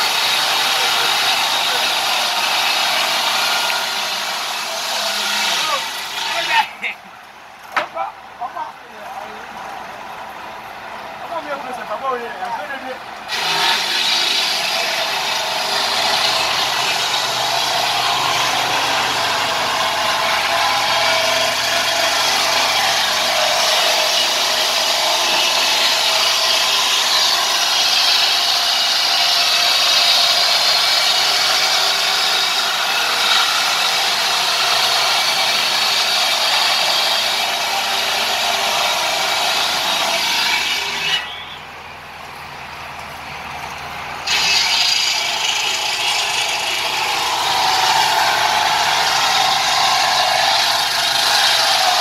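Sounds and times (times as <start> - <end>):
sawmill saw cutting timber: 0.0 - 8.1, 11.2 - 41.6, 43.6 - 52.0.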